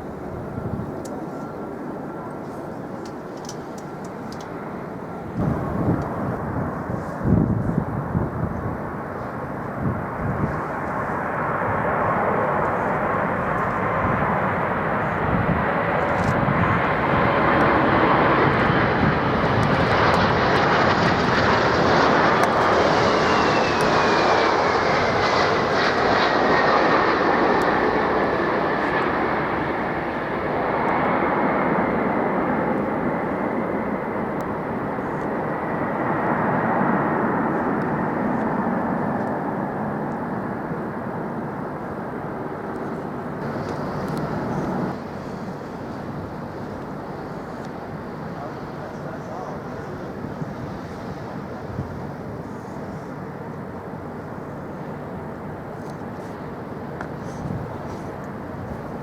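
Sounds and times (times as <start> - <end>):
high jet engine whine: 0.0 - 59.0
jet airliner passing low: 0.0 - 59.0.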